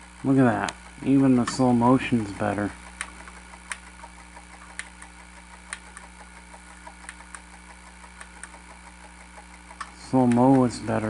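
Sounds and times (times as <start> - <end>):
vcr low hum: 0.0 - 11.0
vcr light ticks: 0.1 - 11.0.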